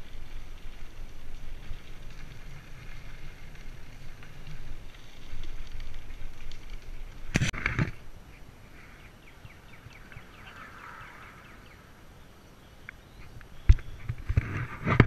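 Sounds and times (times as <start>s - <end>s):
bicycle tyres crackling on gravel: 0.0s - 15.0s
wind rumbling on microphone: 0.0s - 15.0s.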